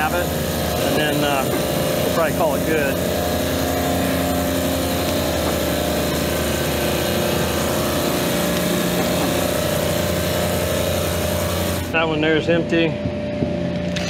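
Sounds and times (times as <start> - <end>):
refrigeration compressors humming: 0.0 - 14.0.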